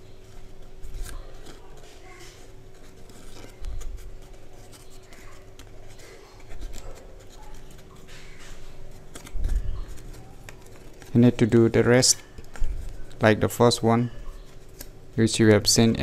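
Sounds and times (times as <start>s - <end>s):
paper crinkling: 0.0s - 16.0s.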